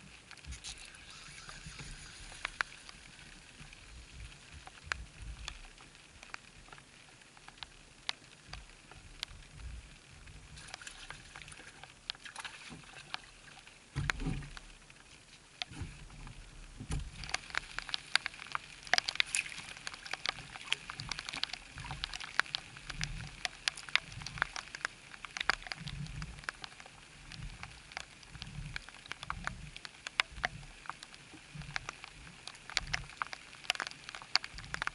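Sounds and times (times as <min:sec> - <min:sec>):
raindrops pattering on umbrella: 0:00.0 - 0:34.9.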